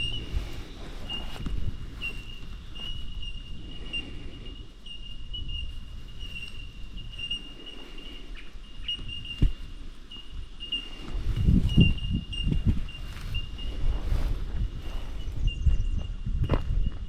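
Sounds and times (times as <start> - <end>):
insect trilling: 0.0 - 13.8
low rustling: 0.0 - 16.0.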